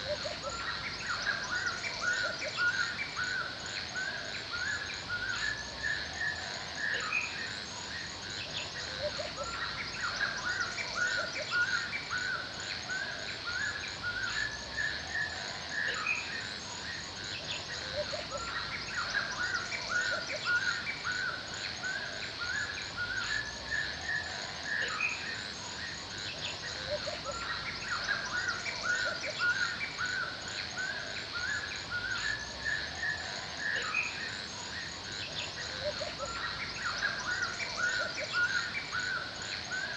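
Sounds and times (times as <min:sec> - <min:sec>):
forest birds chirping: 0:00.0 - 0:39.9
insects chirring: 0:00.0 - 0:39.9.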